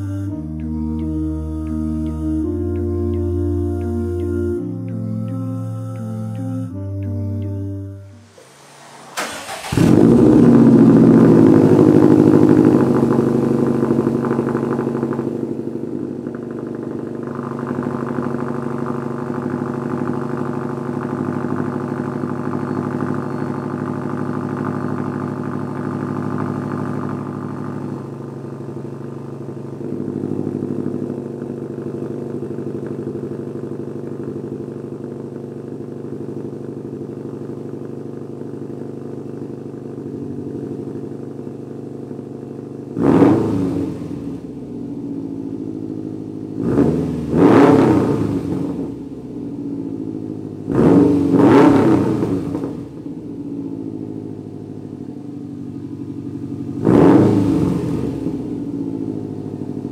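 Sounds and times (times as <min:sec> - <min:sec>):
car engine idling: 0:00.0 - 0:59.9
car engine revving: 0:00.0 - 0:59.9.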